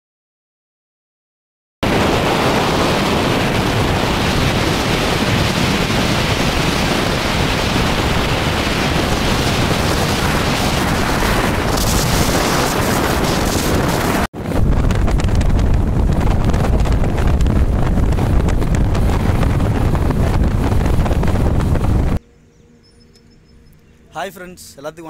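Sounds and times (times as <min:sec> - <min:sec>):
wind rushing over microphone: 0:01.8 - 0:22.2.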